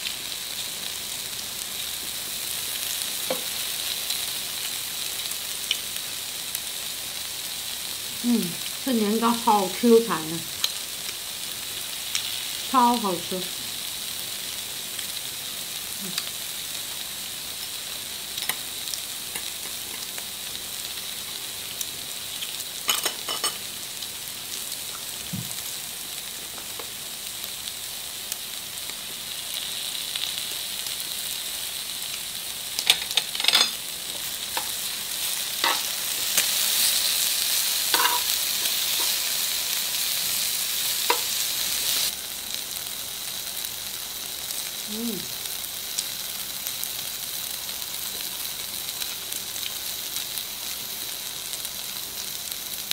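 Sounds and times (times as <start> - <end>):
food sizzling on a grill pan: 0.0 - 52.9.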